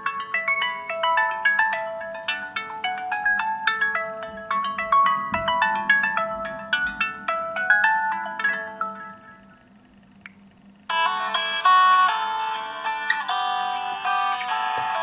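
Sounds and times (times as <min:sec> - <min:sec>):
smartphone ringtone melody: 0:00.0 - 0:09.6, 0:10.9 - 0:15.0.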